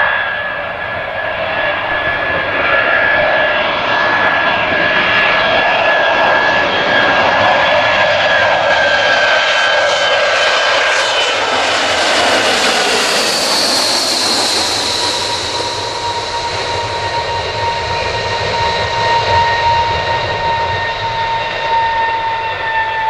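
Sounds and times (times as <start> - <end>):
high-pitched engine whine: 0.0 - 23.0
jet engines roaring: 0.0 - 23.0.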